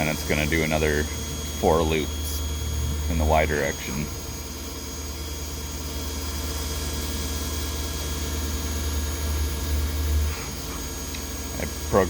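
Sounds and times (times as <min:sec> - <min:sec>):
milling machine humming and whirring: 0:00.0 - 0:12.0.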